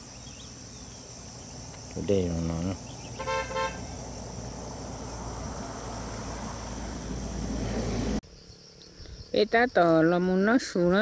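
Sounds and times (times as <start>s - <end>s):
vehicle and road noise: 0.0s - 9.4s.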